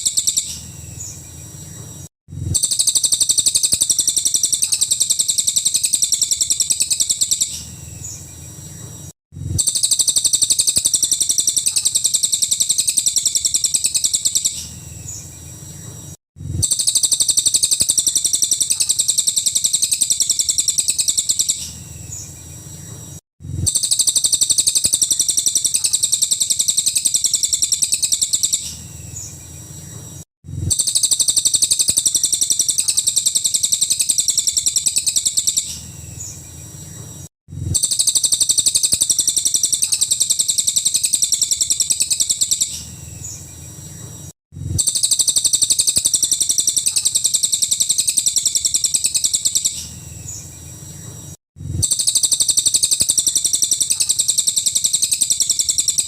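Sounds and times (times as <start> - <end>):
bird singing shrill chatter: 0.0 - 9.0, 9.6 - 22.4, 23.6 - 44.2, 44.8 - 56.0.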